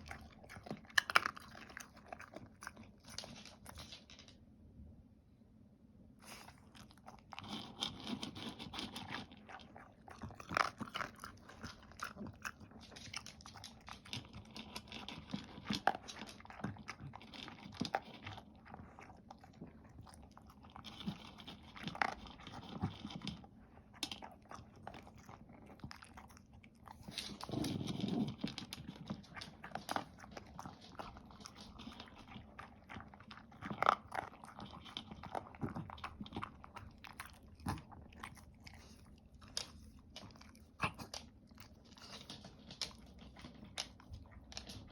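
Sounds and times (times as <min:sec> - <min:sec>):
dog crunching and chewing food: 0:00.0 - 0:04.4, 0:06.3 - 0:44.9.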